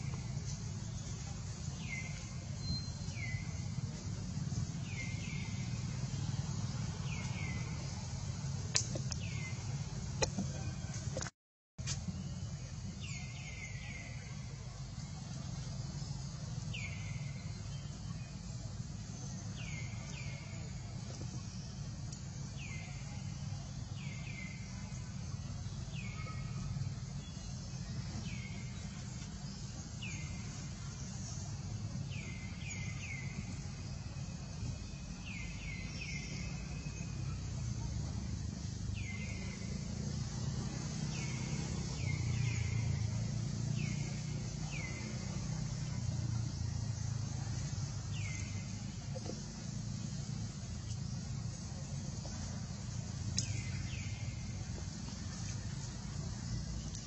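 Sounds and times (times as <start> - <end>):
low rumble and hiss: 0.0 - 57.0.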